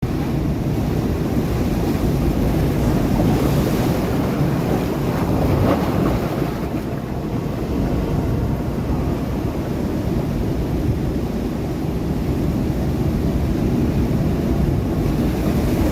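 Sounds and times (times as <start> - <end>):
sea waves breaking against rocks: 0.1 - 11.3, 12.0 - 15.9.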